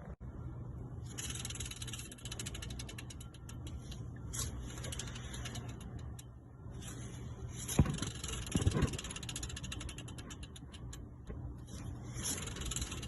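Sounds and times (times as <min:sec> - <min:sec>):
bearing clicking rattle: 0:01.1 - 0:13.0.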